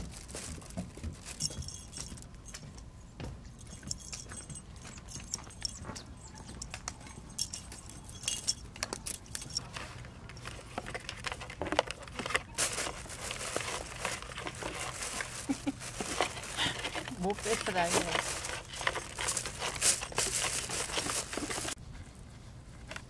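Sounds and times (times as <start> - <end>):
cats playing with crinkly toy: 0.0 - 2.4, 3.6 - 21.8.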